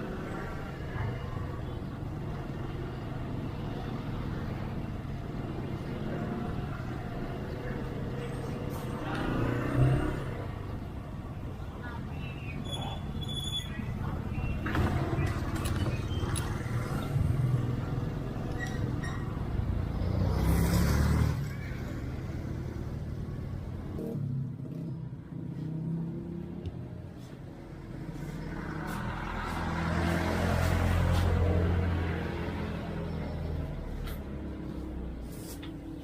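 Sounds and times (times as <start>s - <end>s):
vehicle engines rumbling in traffic: 0.0s - 36.0s.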